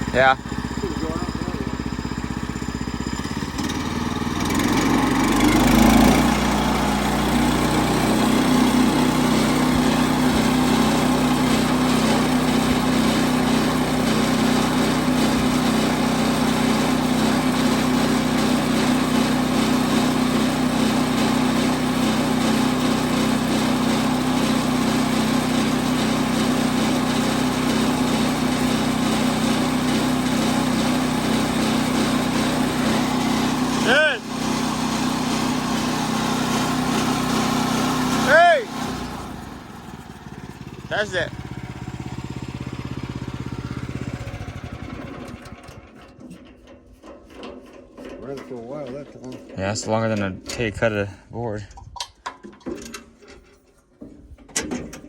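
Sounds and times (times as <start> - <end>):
small engine revving and running: 0.0 - 46.3.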